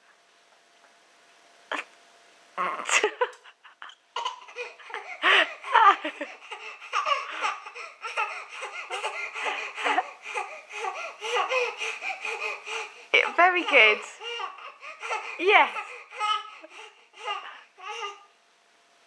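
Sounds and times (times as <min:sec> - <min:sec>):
baby laughing: 0:02.6 - 0:18.2.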